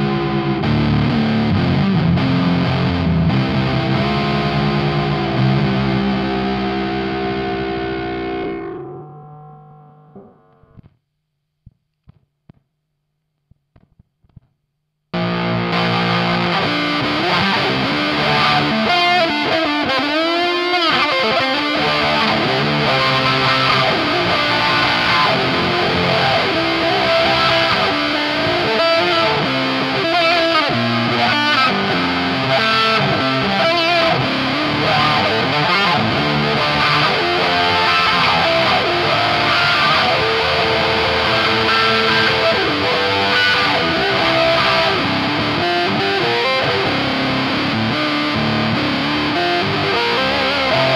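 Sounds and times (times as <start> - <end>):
wah guitar tones: 0.0 - 10.8, 15.2 - 50.9
fuzz-distorted electric guitar riff: 0.0 - 11.0, 15.1 - 50.9.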